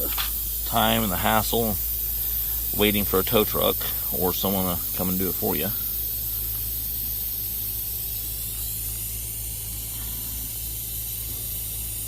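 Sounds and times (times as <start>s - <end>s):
air hissing from tyre: 0.0s - 12.0s
steady low hum: 0.0s - 12.0s.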